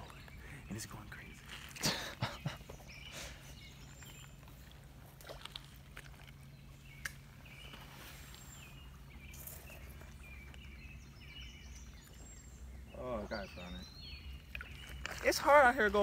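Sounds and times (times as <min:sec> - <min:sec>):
creek low rumble: 0:00.0 - 0:16.0.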